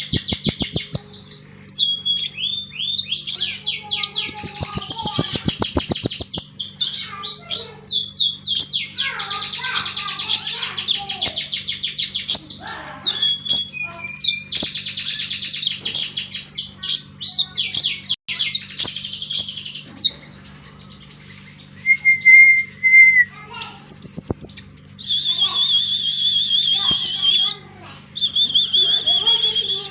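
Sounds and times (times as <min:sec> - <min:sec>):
songbird chattering: 0:00.0 - 0:21.8, 0:23.4 - 0:29.9.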